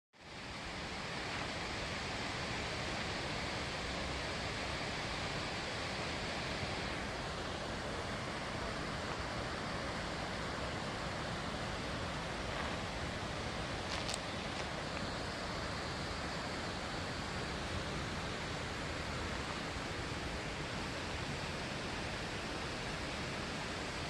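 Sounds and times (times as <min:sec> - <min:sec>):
forest rushing noise: 0:00.2 - 0:24.0.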